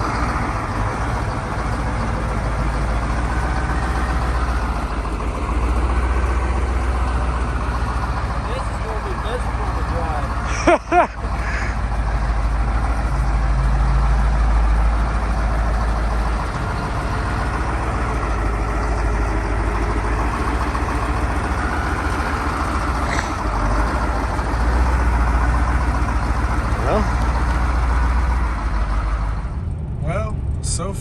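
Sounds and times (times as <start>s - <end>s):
diesel truck engine droning: 0.0s - 31.0s.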